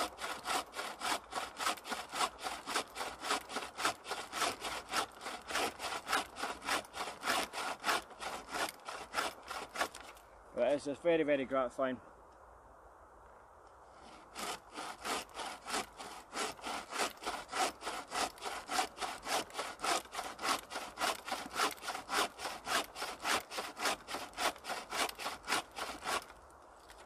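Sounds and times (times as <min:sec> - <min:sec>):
bucksaw cutting wood: 0:00.0 - 0:10.2, 0:14.0 - 0:27.0.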